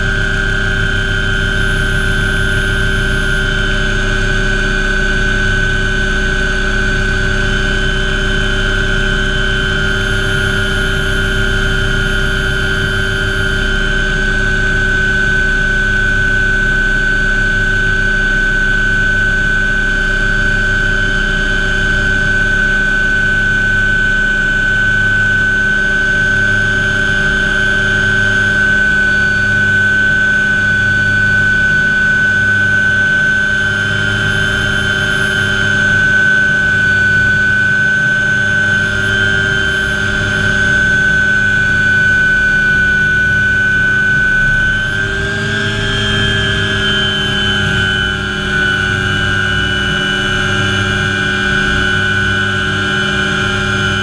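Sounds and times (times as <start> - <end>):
high turbine whine: 0.0 - 54.0
low pulsing rotor hum: 0.0 - 54.0.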